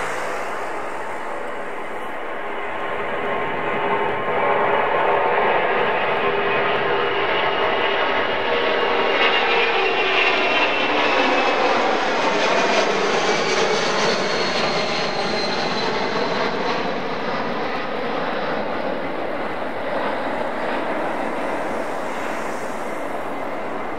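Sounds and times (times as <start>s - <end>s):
jet aircraft taking off: 0.0s - 23.9s.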